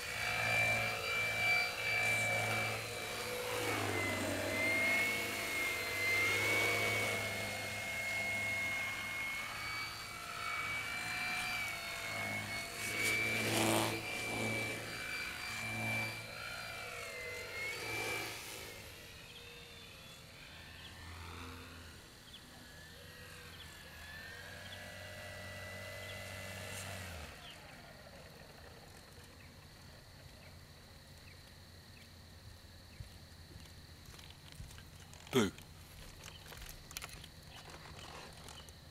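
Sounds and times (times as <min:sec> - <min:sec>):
rc airplane motor whine: 0:00.0 - 0:32.2, 0:32.9 - 0:38.9.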